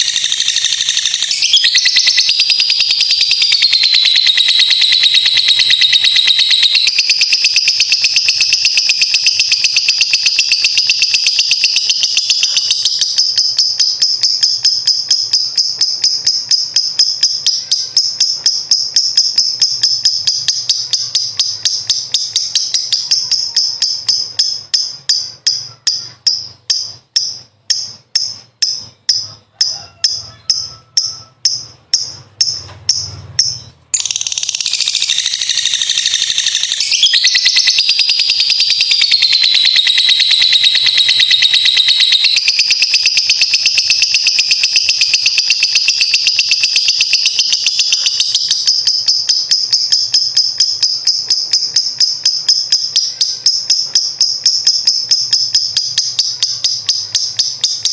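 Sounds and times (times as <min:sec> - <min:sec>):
lovebird trilling and chirping: 0:00.0 - 0:57.9.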